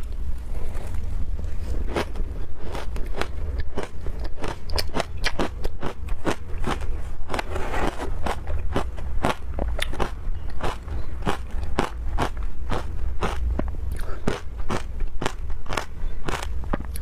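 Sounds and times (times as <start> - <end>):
steady low hum: 0.0 - 17.0
crunching ice being chewed: 1.7 - 17.0.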